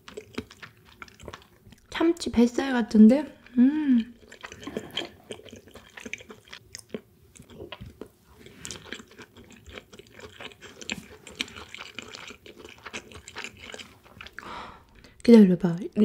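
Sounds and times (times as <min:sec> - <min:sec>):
person chewing wet mouth sounds: 0:00.0 - 0:01.9, 0:03.4 - 0:15.1.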